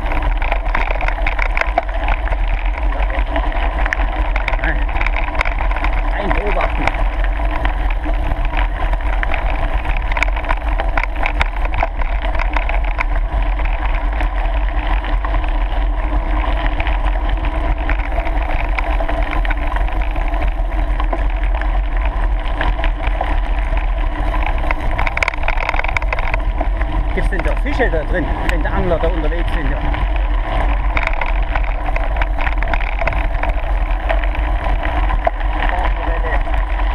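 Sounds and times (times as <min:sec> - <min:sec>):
tyres crunching on gravel: 0:00.0 - 0:36.9
wind rumbling on microphone: 0:00.0 - 0:36.9.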